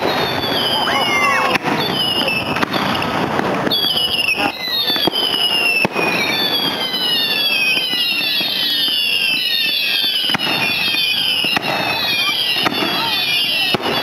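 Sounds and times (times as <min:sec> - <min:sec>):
firework bangs: 0:00.0 - 0:14.0
whistling fireworks: 0:00.0 - 0:14.0.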